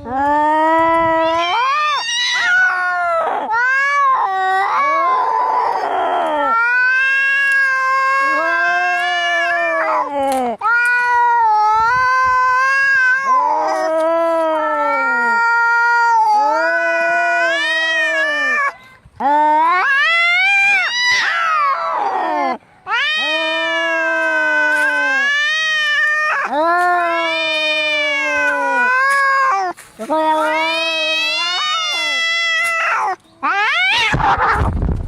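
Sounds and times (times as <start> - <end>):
cats caterwauling: 0.0 - 34.7.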